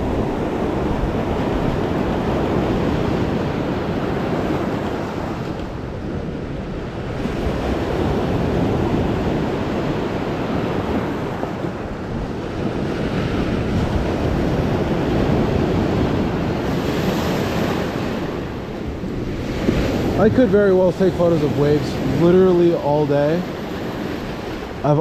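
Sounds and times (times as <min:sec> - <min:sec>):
waves breaking on rocky shore: 0:00.0 - 0:25.0
wind on microphone: 0:00.0 - 0:25.0.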